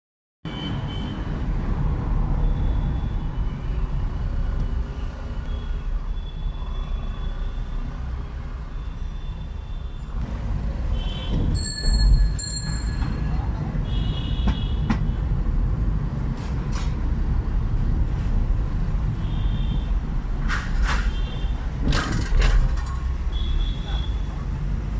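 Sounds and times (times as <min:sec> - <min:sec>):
car engine and tyres rumbling: 0:00.9 - 0:24.9.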